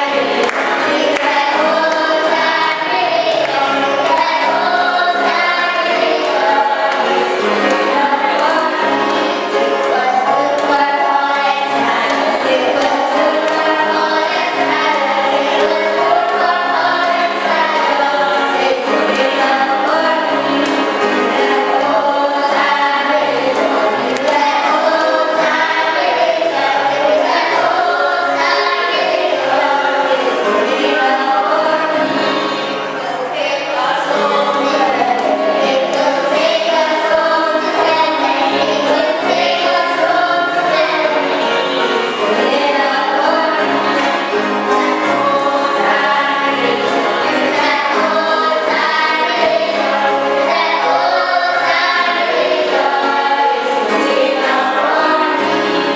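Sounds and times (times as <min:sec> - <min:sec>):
choir singing gospel music: 0:00.0 - 0:55.9.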